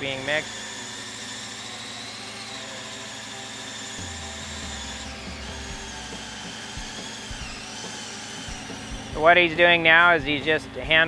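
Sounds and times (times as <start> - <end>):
electric drill whining: 0.0 - 10.5.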